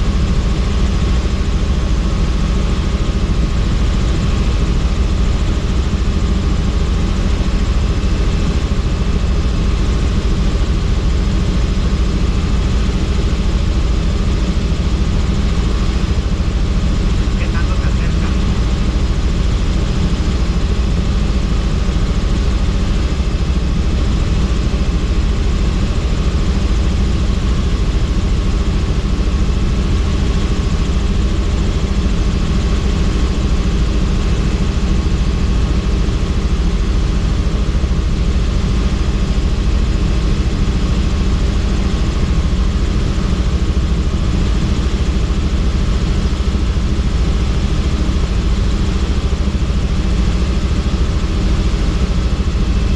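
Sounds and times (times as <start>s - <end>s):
helicopter drone: 0.0s - 52.9s.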